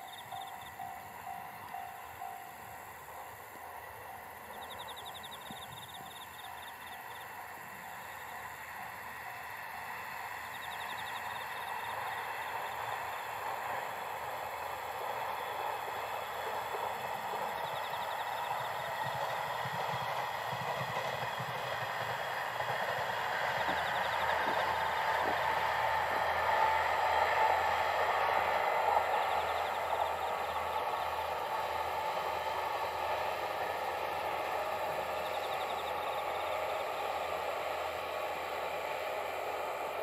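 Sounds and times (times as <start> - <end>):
diesel train running past: 0.0 - 40.0
insects trilling: 0.0 - 40.0.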